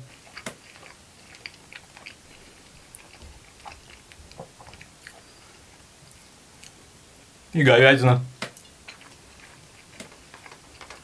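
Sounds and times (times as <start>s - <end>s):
person chewing: 0.0s - 6.9s, 8.5s - 11.0s.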